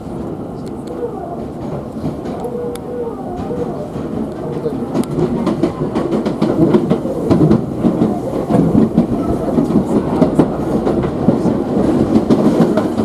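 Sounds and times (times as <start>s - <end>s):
train wheels rumbling on rail: 0.0s - 13.0s
wheels clicking over rail joints: 0.2s - 13.0s.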